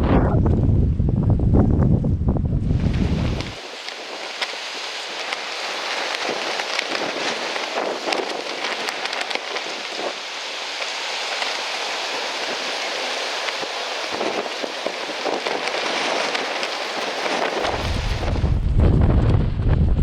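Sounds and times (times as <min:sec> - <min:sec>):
gusty wind through trees: 0:00.0 - 0:20.0.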